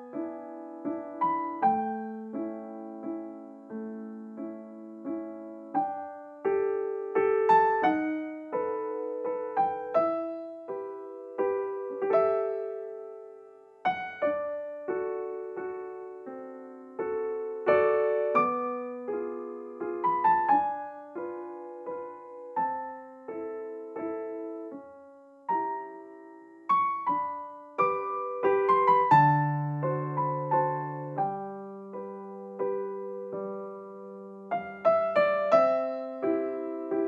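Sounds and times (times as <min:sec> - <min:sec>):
gentle piano melody: 0:00.0 - 0:37.0.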